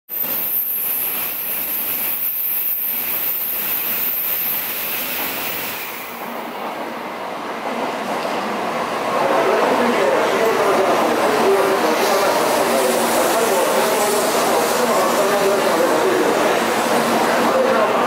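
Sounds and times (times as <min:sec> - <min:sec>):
high-speed train rushing past: 0:00.1 - 0:18.0.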